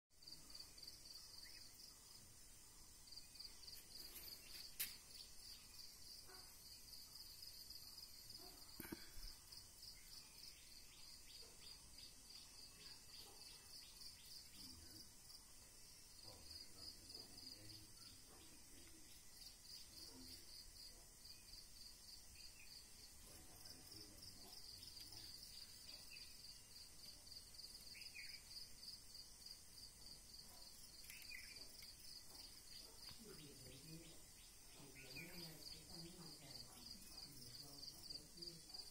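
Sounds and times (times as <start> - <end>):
insect chirring: 0.2 - 38.9.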